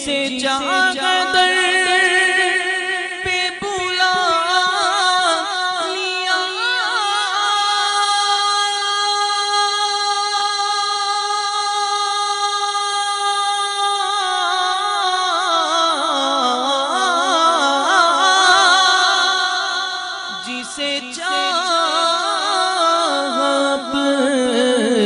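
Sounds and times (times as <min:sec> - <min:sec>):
man singing ornamental melody: 0:00.0 - 0:25.0.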